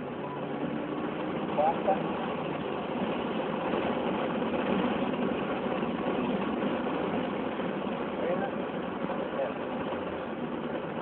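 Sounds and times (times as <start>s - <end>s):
car engine droning: 0.0s - 11.0s
road and wind noise: 0.0s - 11.0s.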